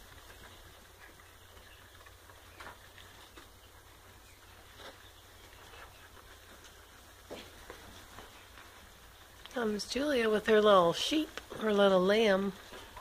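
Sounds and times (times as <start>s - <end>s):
sheep stepping on straw: 0.0s - 13.0s.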